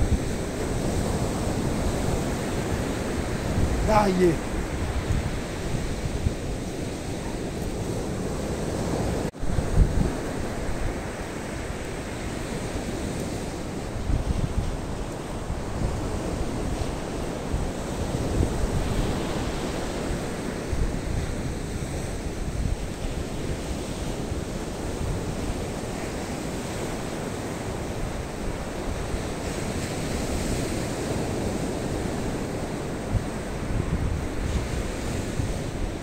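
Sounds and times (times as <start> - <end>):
surf washing up beach: 0.0 - 36.0
wind rumbling on microphone: 0.0 - 36.0.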